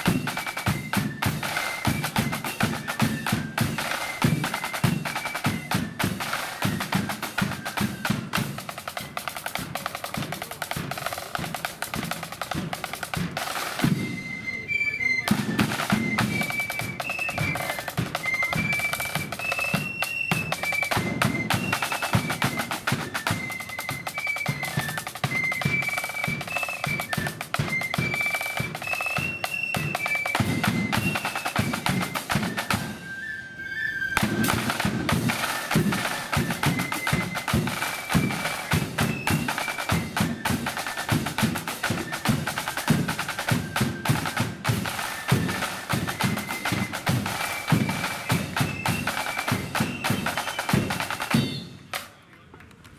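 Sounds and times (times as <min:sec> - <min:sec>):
snare drum rolls: 0:00.0 - 0:14.6, 0:15.2 - 0:33.2, 0:34.2 - 0:52.2
high flute melody: 0:00.0 - 0:52.0.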